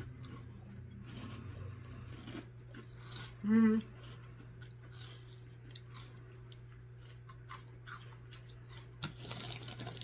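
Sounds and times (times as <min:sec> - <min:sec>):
steady low hum: 0:00.0 - 0:09.4
crunchy snacks being chewed: 0:00.0 - 0:10.0.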